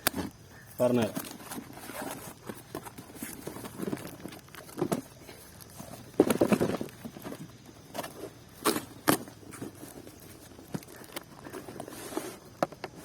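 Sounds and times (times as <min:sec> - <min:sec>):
cardboard box rustling: 0:00.1 - 0:13.0.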